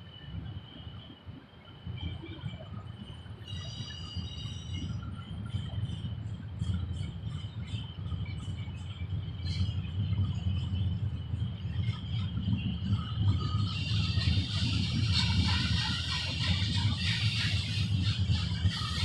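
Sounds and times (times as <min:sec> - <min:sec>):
freight train rumbling: 0:00.0 - 0:19.0.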